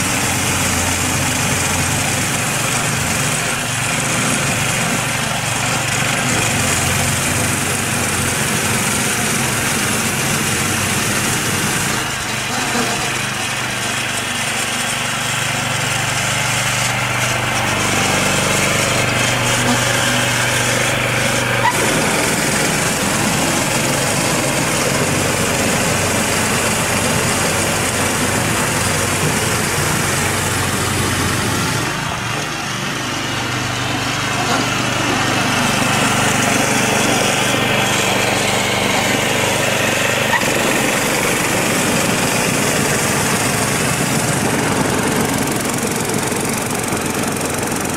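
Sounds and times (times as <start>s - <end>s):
small engine running under load: 0.0s - 47.9s
snow blower throwing snow: 0.0s - 47.9s.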